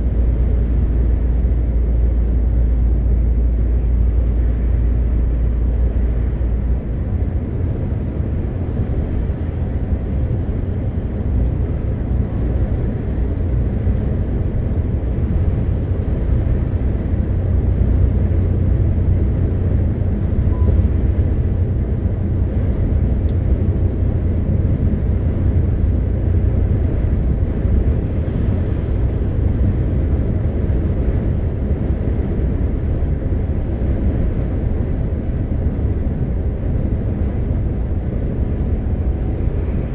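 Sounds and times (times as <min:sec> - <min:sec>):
truck diesel engine droning: 0:00.0 - 0:39.9
tyres on the road: 0:00.0 - 0:39.9.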